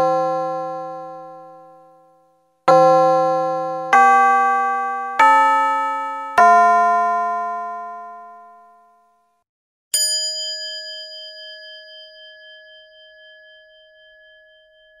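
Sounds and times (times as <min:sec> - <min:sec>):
bell-like chime dings: 0:00.0 - 0:09.2, 0:10.0 - 0:15.0.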